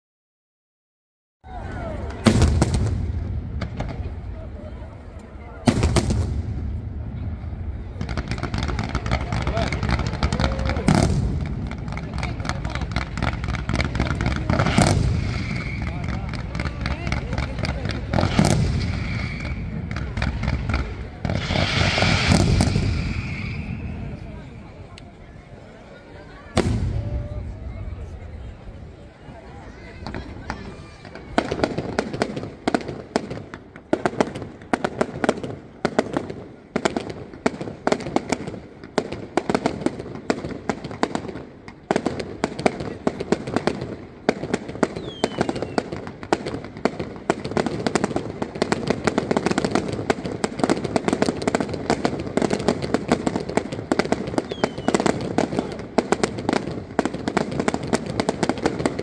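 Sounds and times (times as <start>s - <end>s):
fireworks bursting: 1.5s - 59.0s.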